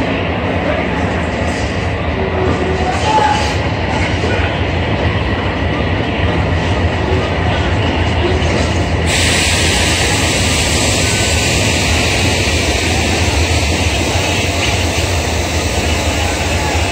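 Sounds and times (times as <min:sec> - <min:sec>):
air rushing from passing train: 0:00.0 - 0:16.9.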